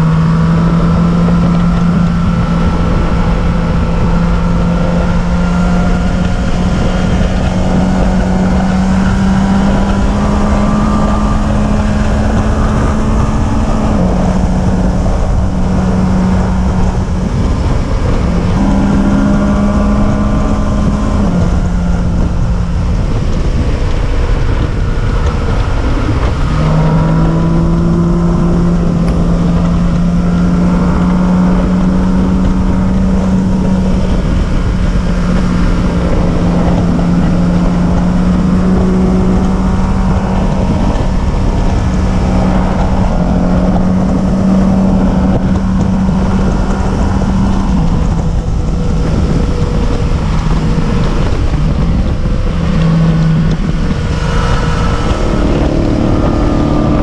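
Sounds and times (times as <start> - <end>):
road rumble: 0.0 - 57.0
vehicle engine droning: 0.0 - 57.0
wind noise: 0.0 - 57.0.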